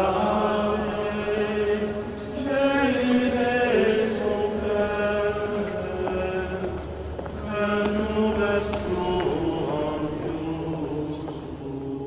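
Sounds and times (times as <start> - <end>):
men singing plainchant: 0.0 - 12.0.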